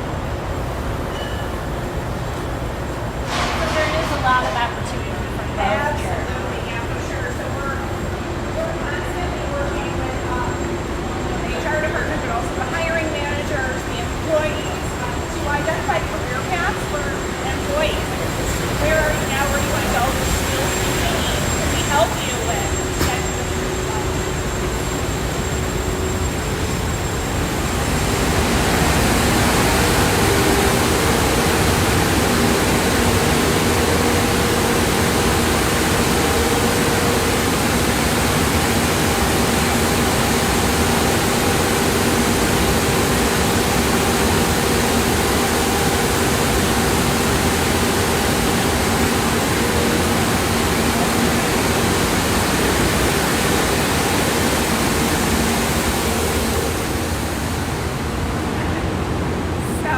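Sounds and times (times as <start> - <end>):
steady hums: 0.0 - 59.9
industrial machinery roaring: 2.0 - 59.9.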